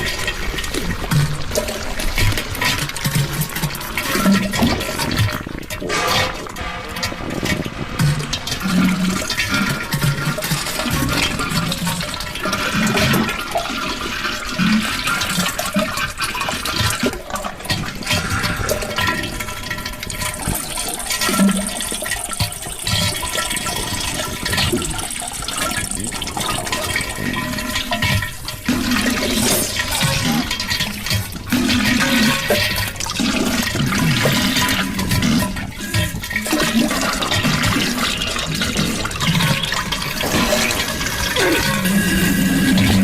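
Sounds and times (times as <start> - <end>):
low water splashes: 0.0 - 43.0
toilet flushing: 0.0 - 43.0.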